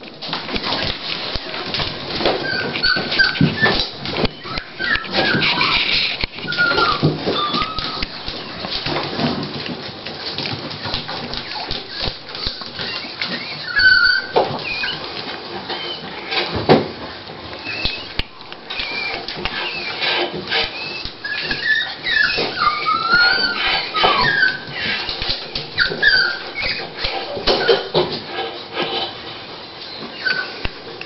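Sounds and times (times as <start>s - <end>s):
scratching and rustling blanket: 0.0s - 31.0s
dog whimpering: 0.7s - 9.2s, 10.9s - 16.5s, 17.6s - 28.0s, 29.8s - 31.0s.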